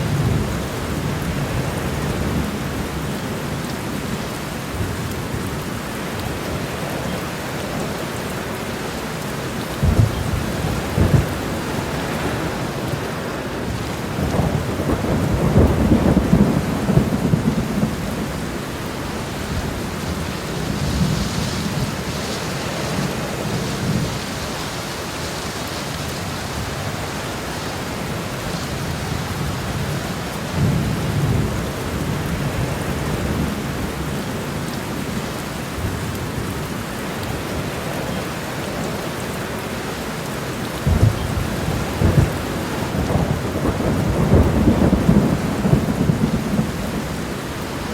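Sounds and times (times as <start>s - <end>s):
heavy rain pouring onto road: 0.0s - 47.9s.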